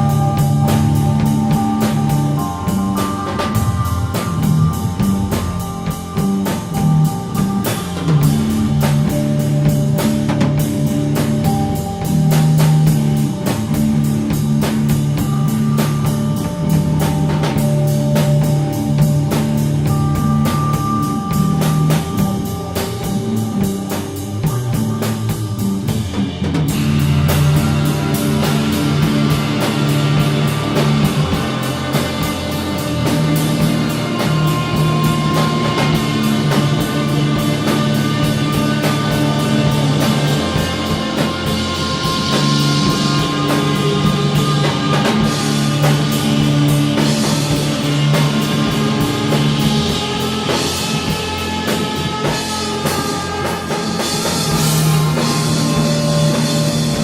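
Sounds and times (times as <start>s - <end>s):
distorted electric guitars: 0.0s - 57.0s
heavy drum kit beat: 0.0s - 57.0s.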